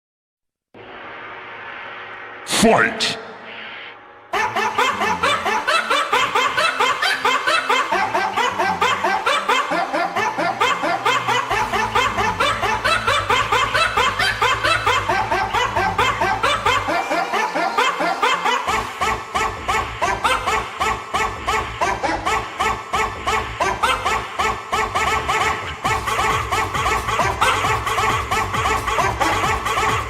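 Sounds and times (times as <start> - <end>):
snickering laughter: 4.3 - 30.0.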